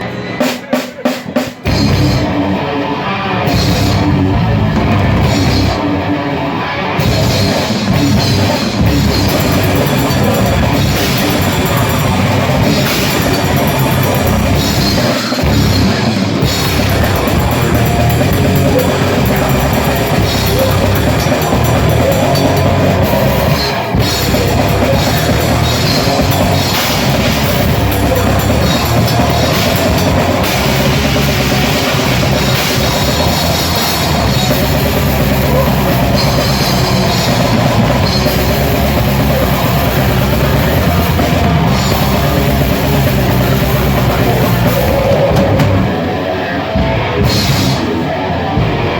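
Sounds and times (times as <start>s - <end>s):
distorted guitar and bass: 0.0s - 48.9s
fast drums: 0.0s - 48.9s.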